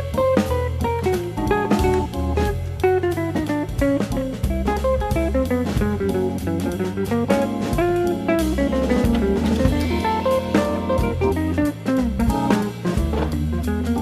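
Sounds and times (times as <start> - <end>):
jovial plucked-string music: 0.0 - 14.0.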